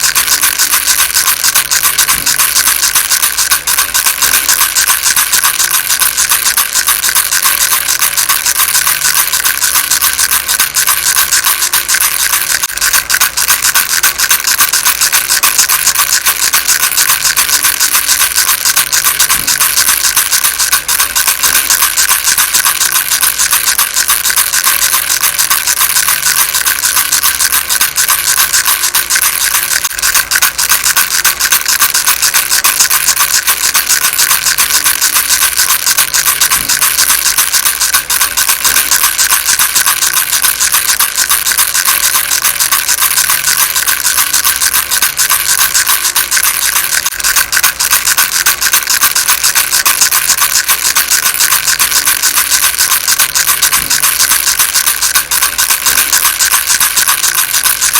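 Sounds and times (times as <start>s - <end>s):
baby rattle shaking: 0.0s - 57.9s.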